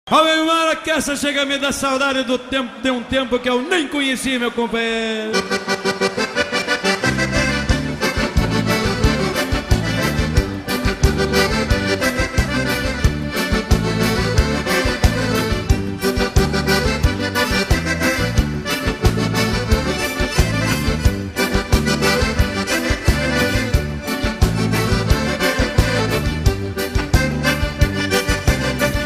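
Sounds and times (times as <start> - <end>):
accordion dance music: 0.1 - 29.0.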